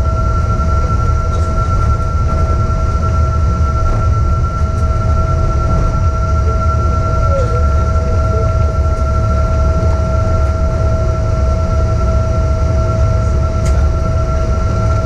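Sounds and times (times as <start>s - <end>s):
airliner cabin rumble and whine: 0.0s - 15.0s.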